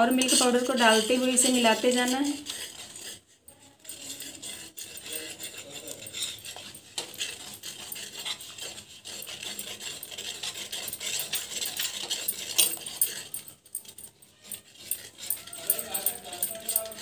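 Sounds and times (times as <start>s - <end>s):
spatula scraping metal pan: 0.0s - 17.0s.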